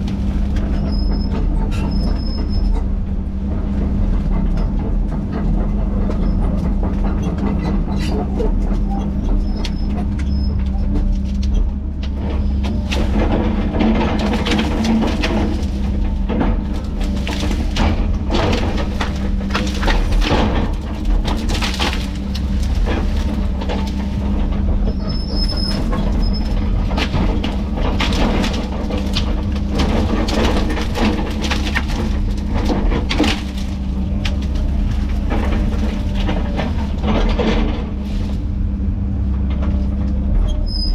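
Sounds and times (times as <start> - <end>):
heavy diesel machinery running: 0.0 - 40.9
wood and metal cracking: 0.0 - 40.9.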